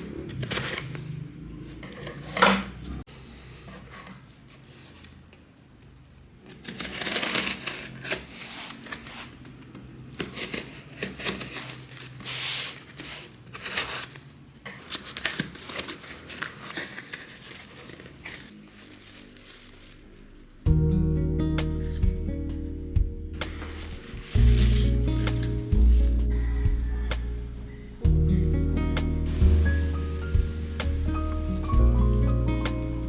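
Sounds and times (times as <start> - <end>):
paper crinkling and rustling: 0.0 - 20.6, 23.4 - 33.0.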